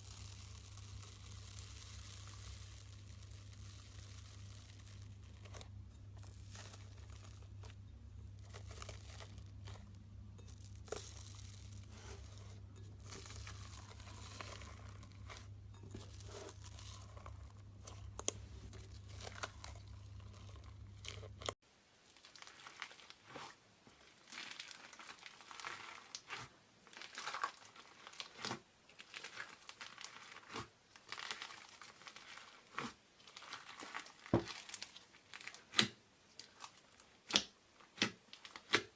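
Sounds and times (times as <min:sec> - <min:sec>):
slime crinkling and popping: 0:00.0 - 0:38.9.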